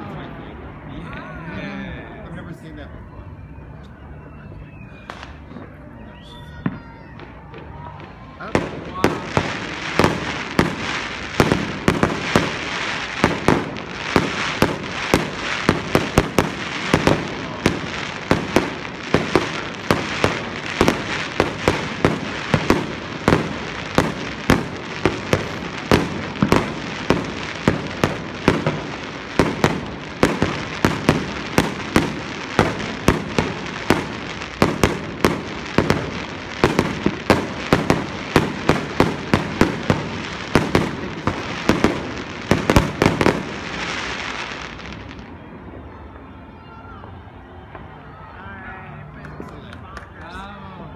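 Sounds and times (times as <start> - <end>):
fireworks bursting with sharp bangs: 3.4 - 48.2
noisy hiss: 7.3 - 49.4.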